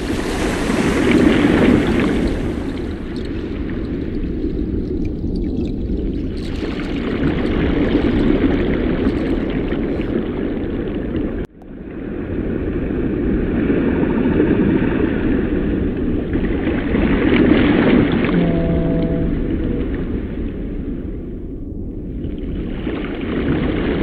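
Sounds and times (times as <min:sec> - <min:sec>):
rushing sea water: 0:00.0 - 0:24.0.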